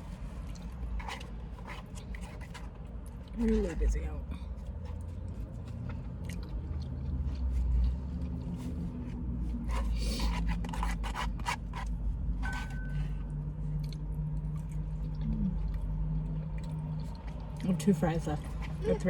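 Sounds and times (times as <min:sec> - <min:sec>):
chewing: 0:00.1 - 0:03.6, 0:04.3 - 0:19.0.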